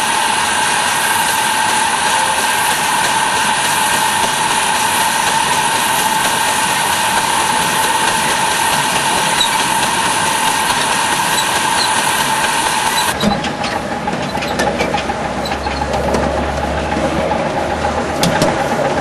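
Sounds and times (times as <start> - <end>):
steam locomotive hissing: 0.0 - 19.0
train running along track: 0.0 - 19.0
wheels clicking on track: 0.0 - 19.0.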